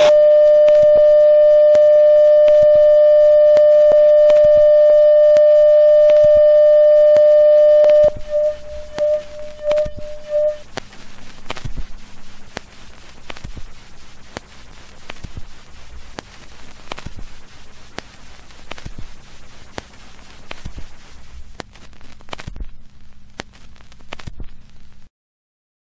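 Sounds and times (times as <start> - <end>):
low steady hum: 0.0 - 23.4
crackling pops: 0.0 - 25.1
static hiss: 0.0 - 25.1.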